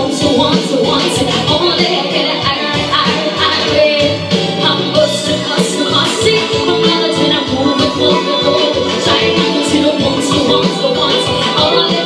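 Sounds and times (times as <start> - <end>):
electric guitar with steady beat: 0.0 - 12.0
woman singing: 0.0 - 12.0.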